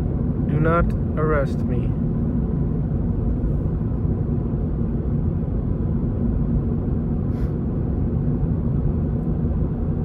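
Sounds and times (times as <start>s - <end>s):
car engine rumble inside cabin: 0.0s - 10.0s
road noise: 0.0s - 10.0s.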